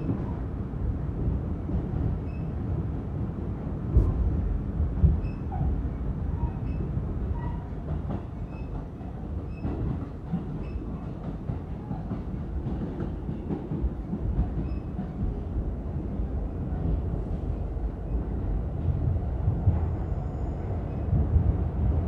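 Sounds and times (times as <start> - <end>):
subway car rumbling on rails: 0.0 - 22.0.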